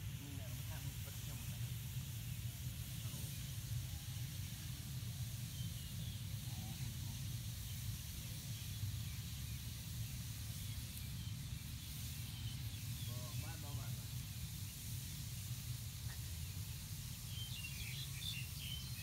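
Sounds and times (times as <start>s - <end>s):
wood fire hissing: 0.0s - 19.0s.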